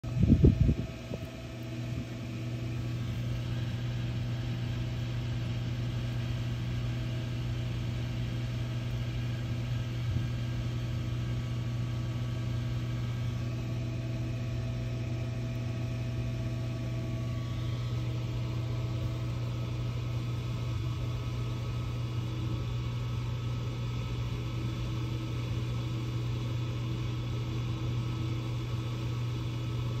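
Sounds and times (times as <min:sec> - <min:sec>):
low machine hum with tones: 0:00.0 - 0:30.0.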